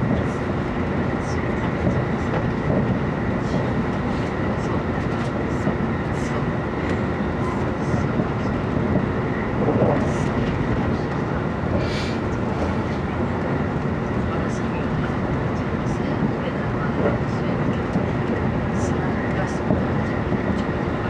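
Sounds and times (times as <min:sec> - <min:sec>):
train running noise inside car: 0:00.0 - 0:21.0.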